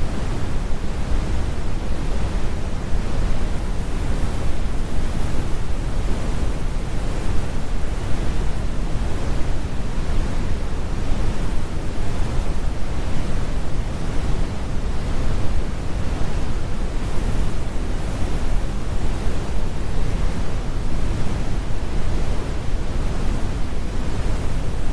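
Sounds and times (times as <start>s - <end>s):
brown noise rumble: 0.0s - 24.9s.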